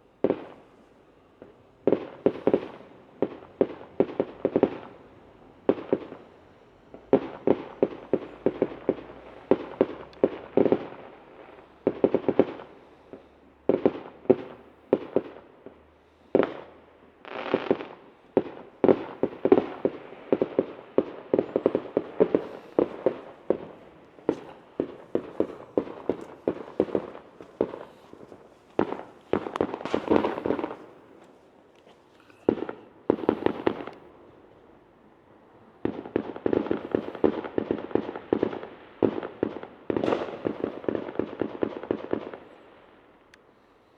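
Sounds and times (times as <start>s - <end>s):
fireworks bangs and crackles: 0.2s - 0.7s, 1.4s - 34.4s, 35.7s - 43.3s.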